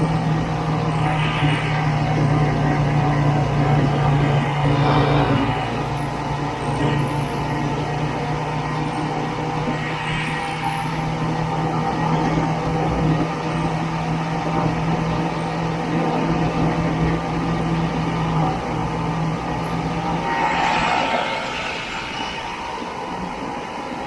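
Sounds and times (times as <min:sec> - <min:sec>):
track and wind noise: 0:00.0 - 0:24.0.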